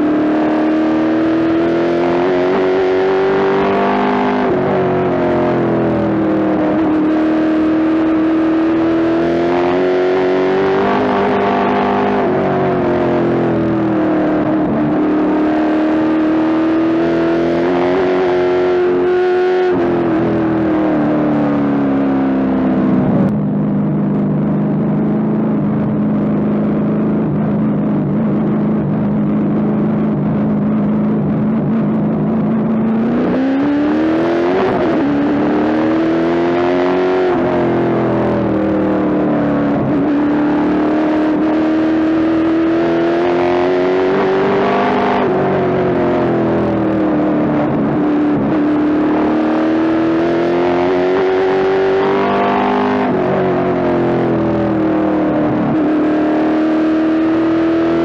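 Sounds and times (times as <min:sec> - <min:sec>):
race car engine revving: 0:00.0 - 0:23.3, 0:24.7 - 0:58.0.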